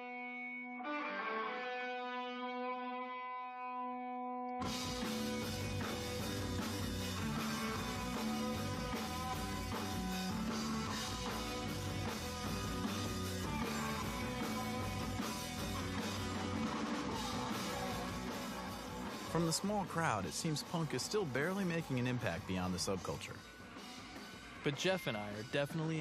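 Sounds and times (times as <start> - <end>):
punk rock band playing live: 4.6 - 26.0.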